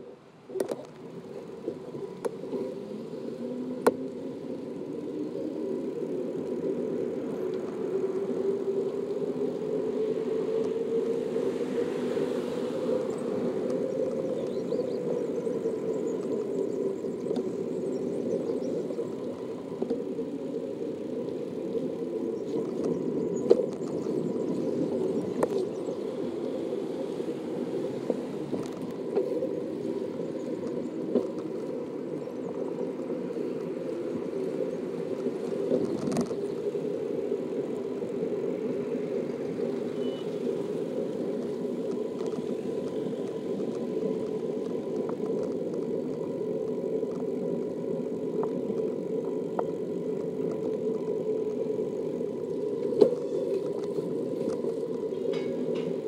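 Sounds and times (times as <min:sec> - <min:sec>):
bicycle rolling on pavement: 0:00.9 - 0:56.0.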